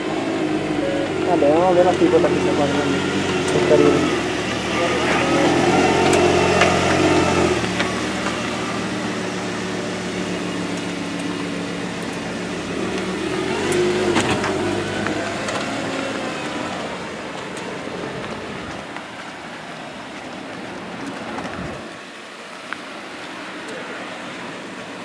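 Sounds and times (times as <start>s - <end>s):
car engine pulling away: 0.0s - 25.0s.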